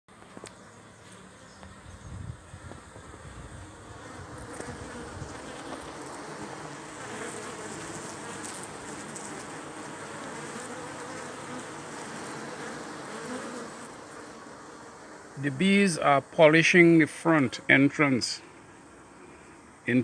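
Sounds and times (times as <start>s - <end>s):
honey bees buzzing: 0.1s - 20.0s.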